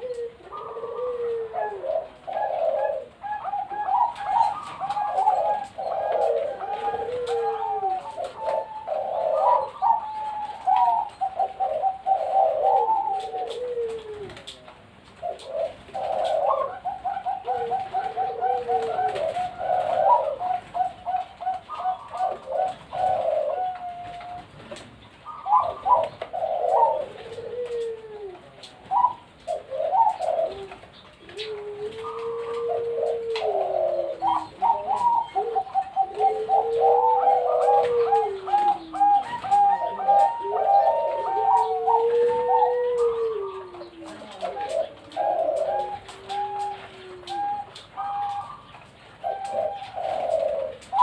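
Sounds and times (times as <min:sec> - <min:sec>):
doves cooing: 0:00.0 - 0:51.0.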